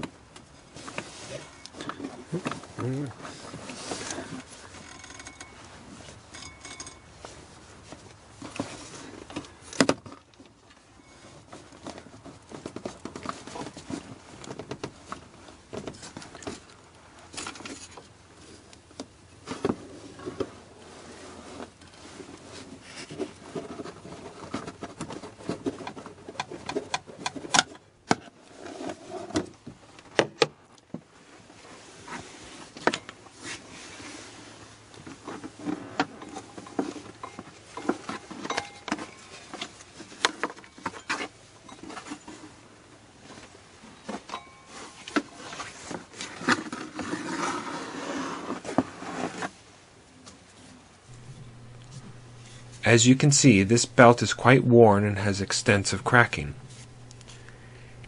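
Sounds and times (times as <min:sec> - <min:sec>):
hands handling belt and pulleys: 0:00.0 - 0:30.2, 0:30.8 - 0:49.6.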